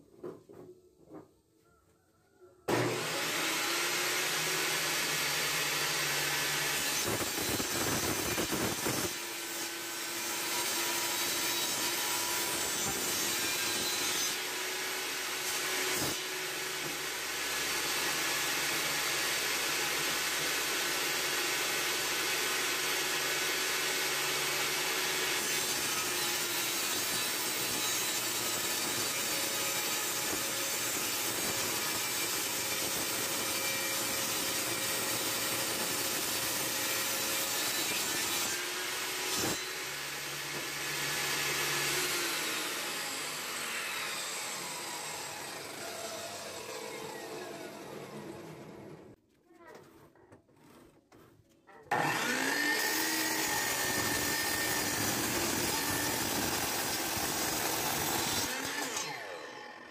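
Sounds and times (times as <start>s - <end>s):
table saw ripping wood: 2.7s - 49.2s, 50.6s - 59.9s.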